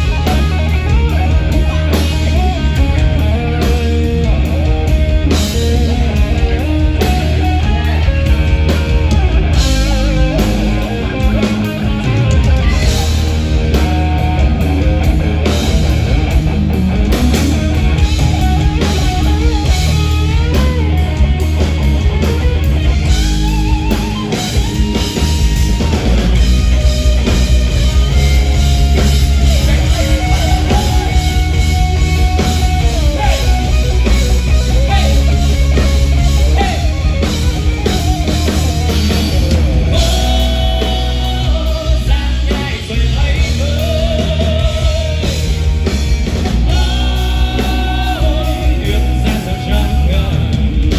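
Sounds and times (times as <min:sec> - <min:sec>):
wavering lead melody: 0:00.0 - 0:42.2
drum kit: 0:00.0 - 0:50.9
electric guitars: 0:00.0 - 0:50.9
heavy bass: 0:00.0 - 0:50.9.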